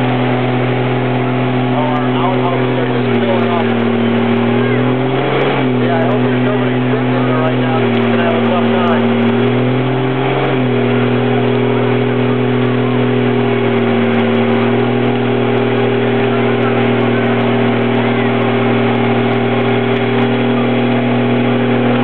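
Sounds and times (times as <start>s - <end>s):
truck engine at high revs: 0.0s - 22.0s
tyres spinning: 0.0s - 22.0s.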